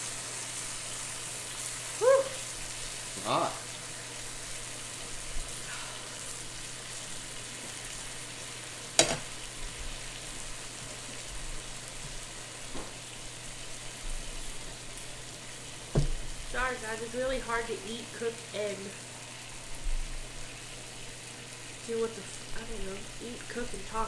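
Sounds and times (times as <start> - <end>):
food sizzling on grill: 0.0 - 24.0.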